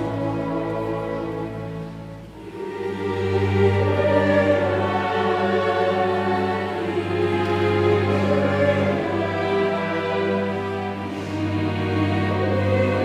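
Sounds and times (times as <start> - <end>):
chamber orchestra: 0.0 - 13.0
mixed choir singing: 0.0 - 13.0.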